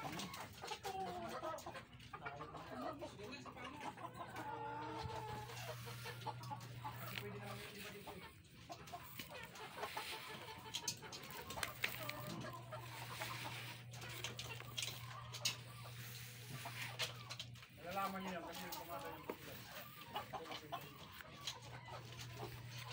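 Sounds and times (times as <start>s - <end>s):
chickens clucking: 0.0s - 22.9s.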